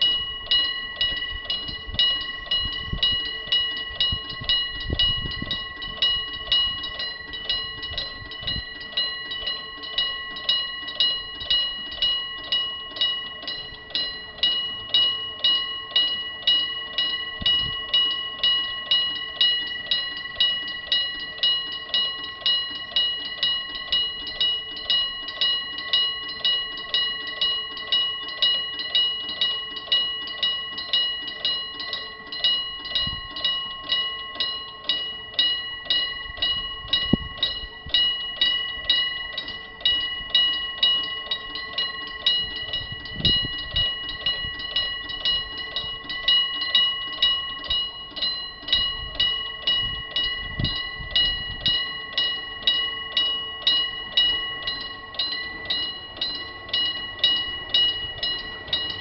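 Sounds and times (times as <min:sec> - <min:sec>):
electric warning bell ringing: 0:00.0 - 0:59.0.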